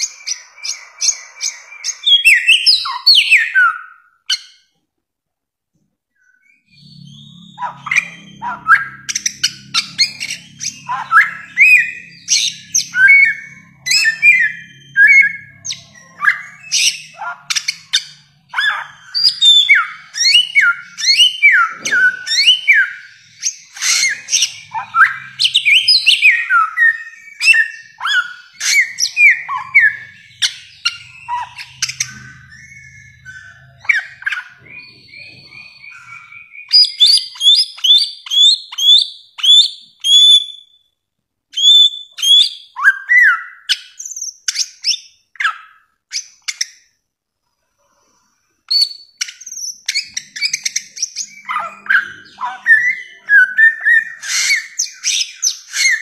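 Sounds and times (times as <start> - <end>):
bird singing whistled notes: 0.0 - 4.6, 6.2 - 46.9, 48.7 - 56.0.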